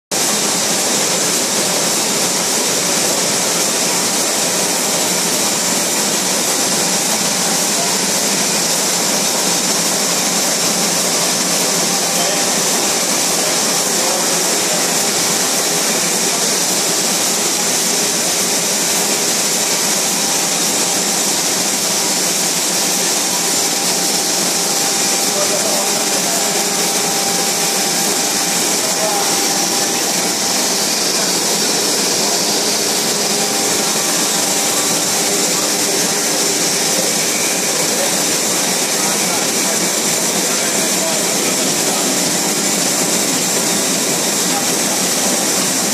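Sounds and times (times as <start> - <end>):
printing press whirring: 0.1 - 45.9
vacuum pump running: 0.1 - 45.9.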